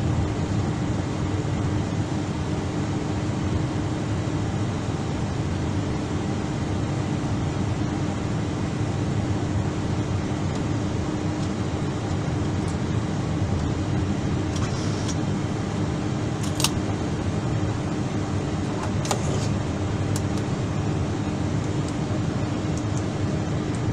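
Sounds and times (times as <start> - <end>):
aircraft cabin hum: 0.0 - 23.9.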